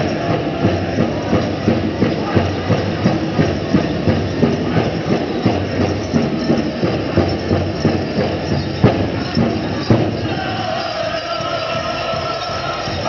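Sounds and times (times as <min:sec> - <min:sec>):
drum beaten in steady rhythm: 0:00.0 - 0:13.0.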